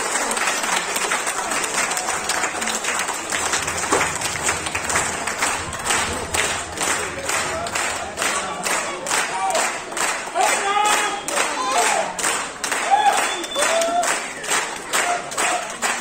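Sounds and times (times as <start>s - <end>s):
audience clapping: 0.0s - 16.0s.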